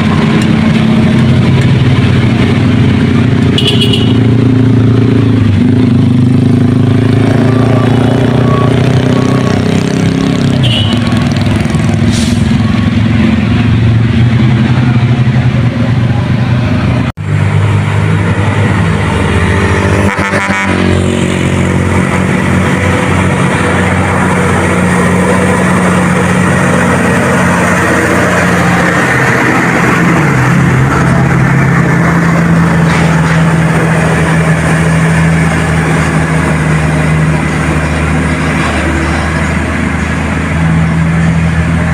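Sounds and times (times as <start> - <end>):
road vehicle engines humming: 0.0 - 41.9.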